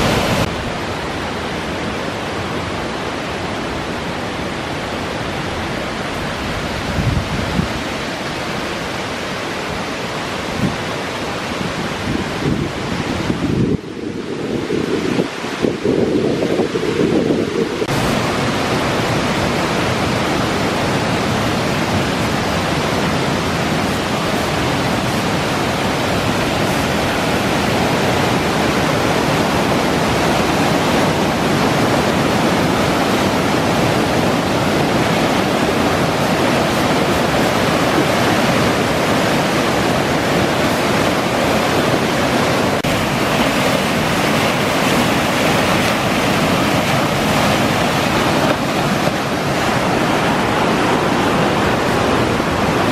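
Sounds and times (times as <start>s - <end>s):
mountain stream rushing: 0.0s - 52.9s.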